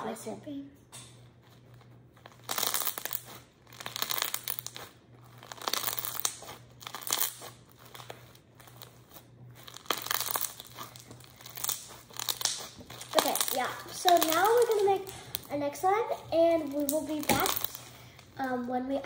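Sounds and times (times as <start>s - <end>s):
slime crackling and crinkling: 1.2s - 19.0s.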